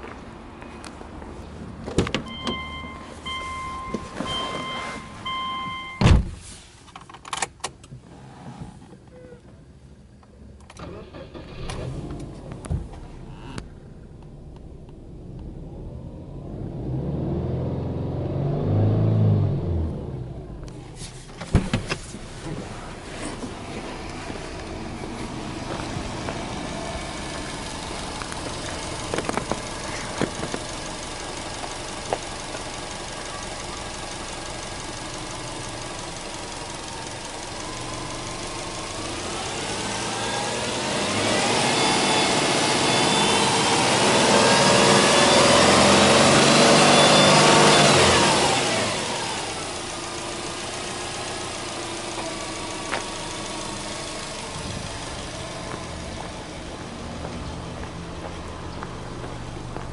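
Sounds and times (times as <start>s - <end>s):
car engine idling and revving: 0.0s - 6.0s, 6.9s - 59.9s.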